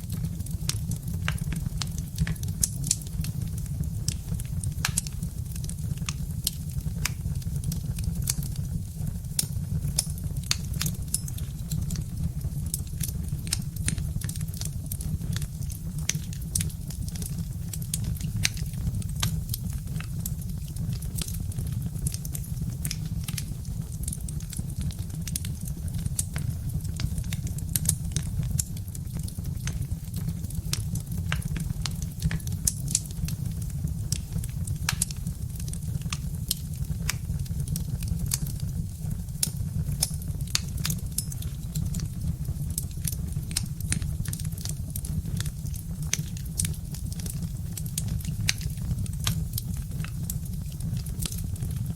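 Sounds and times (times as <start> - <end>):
wood fire crackling and popping: 0.0 - 51.9.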